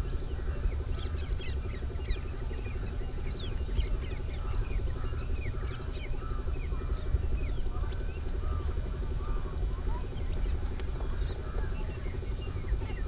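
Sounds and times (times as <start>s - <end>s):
steady low rumble: 0.0s - 13.0s
wetland birds chirping and whistling: 0.0s - 13.0s.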